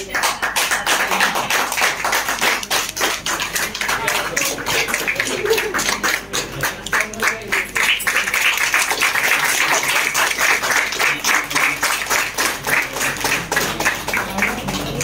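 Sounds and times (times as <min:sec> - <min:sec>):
people applauding: 0:00.0 - 0:15.0.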